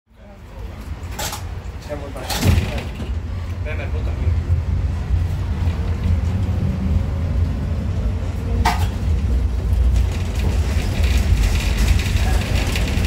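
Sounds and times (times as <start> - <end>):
tram rumbling: 0.1 - 13.0.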